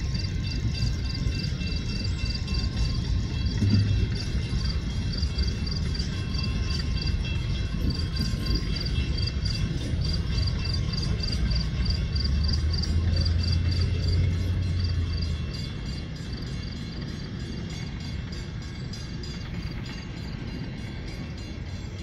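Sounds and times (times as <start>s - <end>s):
crossing warning bell ringing: 0.0s - 22.0s
diesel locomotive rumble: 0.0s - 22.0s.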